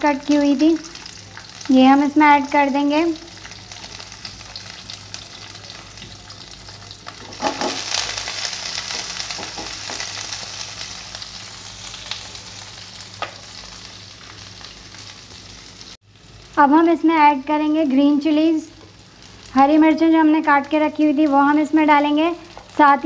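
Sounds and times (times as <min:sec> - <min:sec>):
onion and garlic sizzling: 0:00.0 - 0:23.0.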